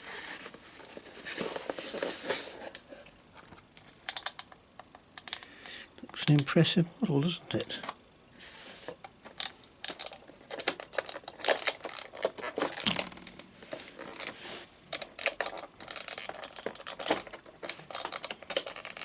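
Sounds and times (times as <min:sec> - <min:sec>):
packaging crinkling and rustling: 0:00.0 - 0:05.4, 0:07.5 - 0:19.0.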